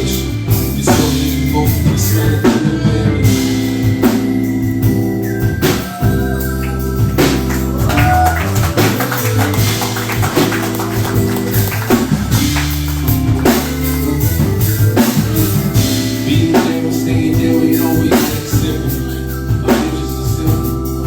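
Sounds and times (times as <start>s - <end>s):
live band playing hip-hop: 0.0s - 21.0s.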